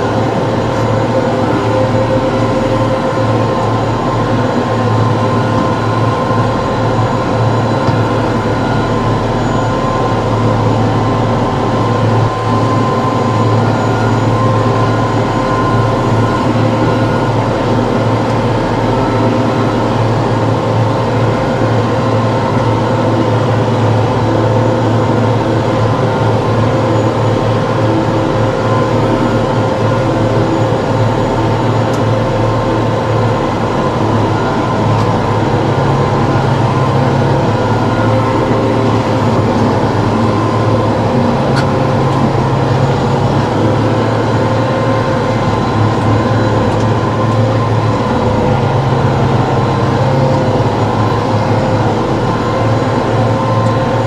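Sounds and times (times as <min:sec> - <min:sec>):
tractor engine drone: 0:00.0 - 0:54.0.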